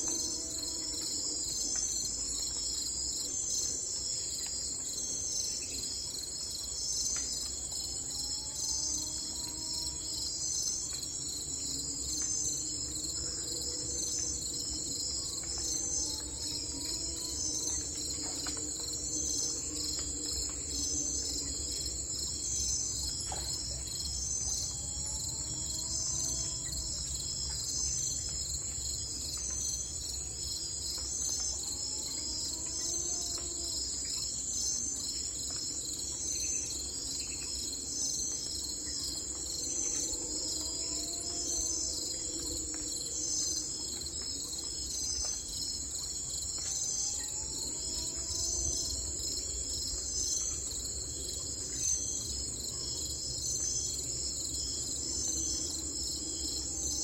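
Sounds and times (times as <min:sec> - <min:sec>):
insects chirping in pulsing trill: 0:00.0 - 0:57.0.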